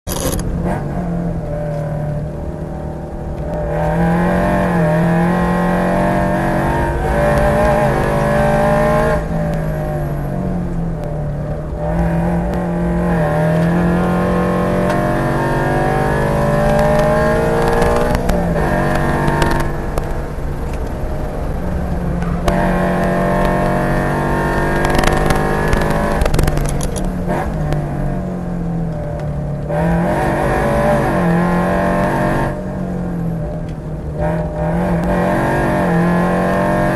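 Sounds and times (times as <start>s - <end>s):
car engine revving through gears: 0.1s - 36.9s.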